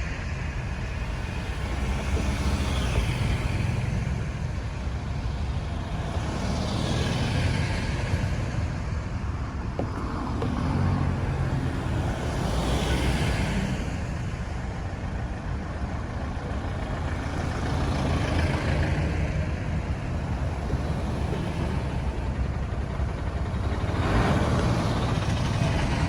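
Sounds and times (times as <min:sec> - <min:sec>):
road traffic rumble: 0:00.0 - 0:26.0
vehicles passing: 0:00.0 - 0:26.0.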